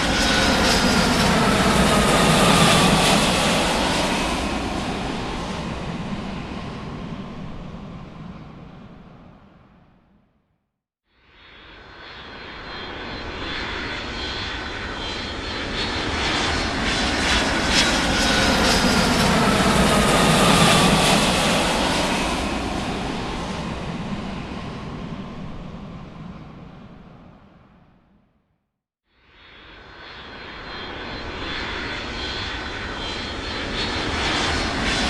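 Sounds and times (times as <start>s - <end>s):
large aircraft flying past: 0.0s - 10.0s, 11.4s - 28.2s, 29.4s - 35.0s.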